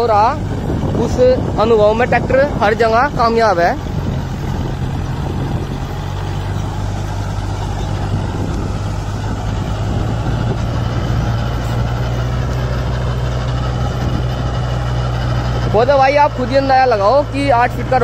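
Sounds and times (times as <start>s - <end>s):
tractor diesel engine under load: 0.0s - 18.0s.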